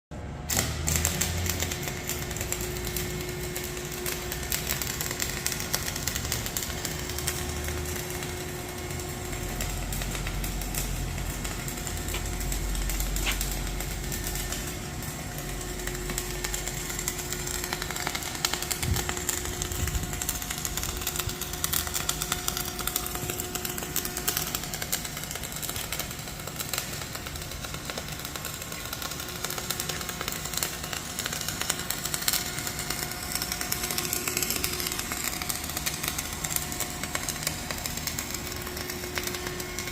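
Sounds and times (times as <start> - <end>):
steady machine hum: 0.2 - 39.9
welding crackle: 0.2 - 39.9.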